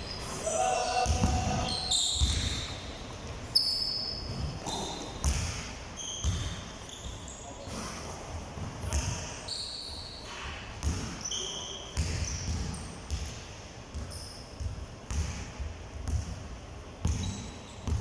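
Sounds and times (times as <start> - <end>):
sneakers squeaking on floor: 0.0 - 7.9, 8.6 - 15.4, 17.0 - 18.0
basketballs bouncing on court: 0.9 - 3.4, 4.1 - 9.4, 10.7 - 18.0.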